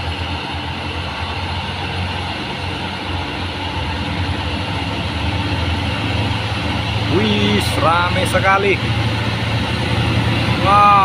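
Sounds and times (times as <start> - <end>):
heavy truck diesel engines droning: 0.0 - 11.0
tyre and road noise: 0.0 - 11.0.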